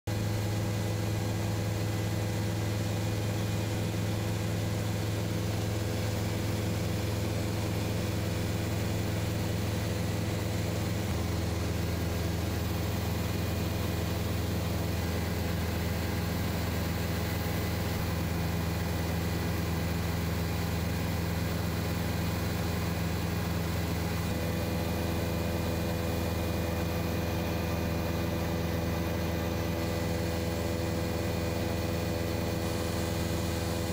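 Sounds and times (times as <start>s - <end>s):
helicopter engine and rotor drone: 0.1s - 33.9s.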